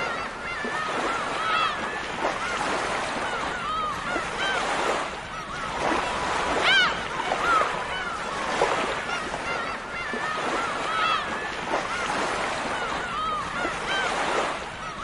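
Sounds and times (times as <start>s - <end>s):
gulls squawking: 0.0s - 15.0s
waves breaking: 0.0s - 15.0s.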